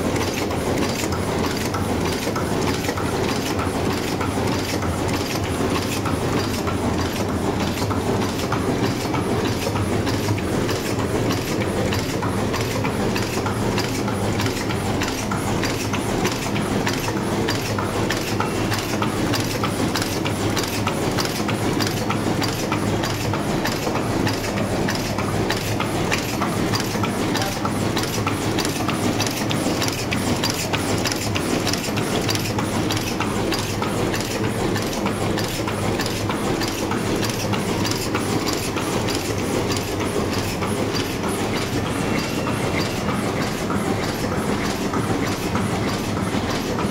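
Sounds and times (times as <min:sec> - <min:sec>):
rhythmic machine clatter: 0:00.0 - 0:46.9.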